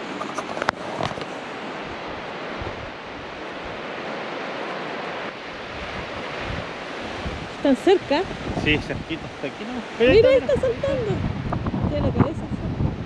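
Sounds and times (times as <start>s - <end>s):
surf washing on beach: 0.0s - 13.0s
wind buffeting microphone: 0.0s - 13.0s.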